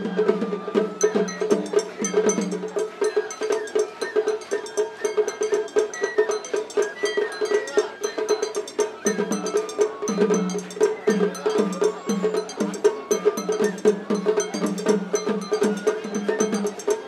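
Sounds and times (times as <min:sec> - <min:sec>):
drum beats: 0:00.0 - 0:17.0.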